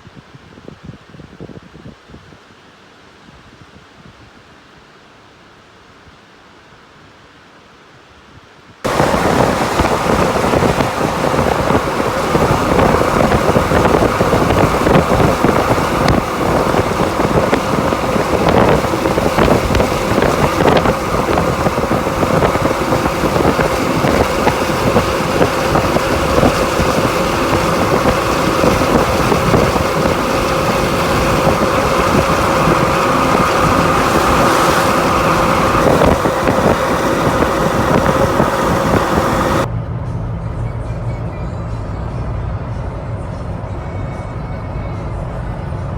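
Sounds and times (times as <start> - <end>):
vehicle engine and road noise: 8.8 - 45.9.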